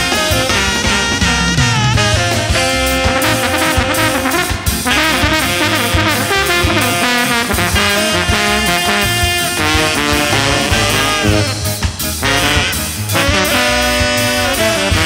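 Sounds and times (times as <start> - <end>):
jazz music with horns: 0.0 - 15.0.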